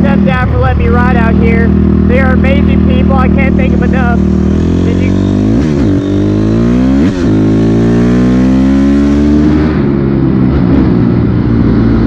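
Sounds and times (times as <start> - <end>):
dirt bike engine accelerating: 0.0 - 12.0.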